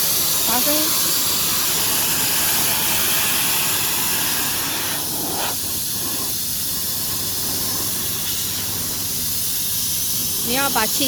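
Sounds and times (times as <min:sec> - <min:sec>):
loud hissing noise: 0:00.0 - 0:11.0.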